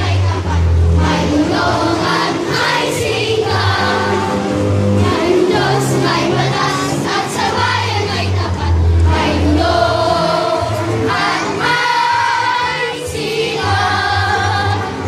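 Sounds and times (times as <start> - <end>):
children singing as a choir: 0.0 - 15.0
low bass notes: 0.0 - 15.0.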